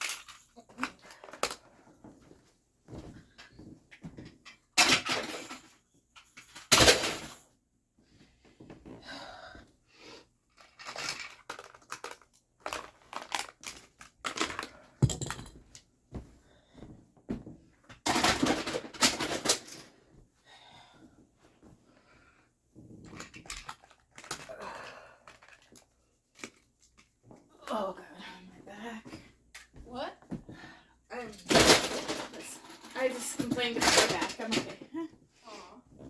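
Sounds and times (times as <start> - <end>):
household items rustling and clattering: 0.0 - 36.0.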